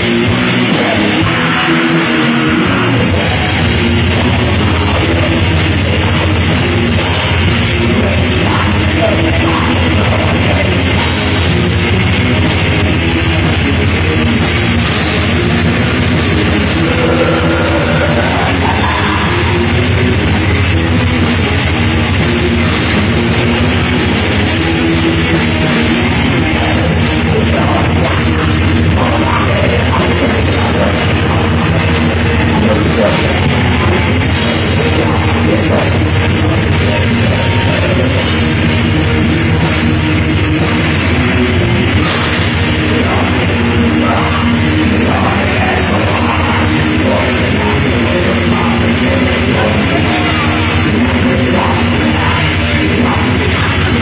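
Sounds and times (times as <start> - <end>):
distorted electric guitars: 0.0 - 54.0
drum kit playing: 0.0 - 54.0.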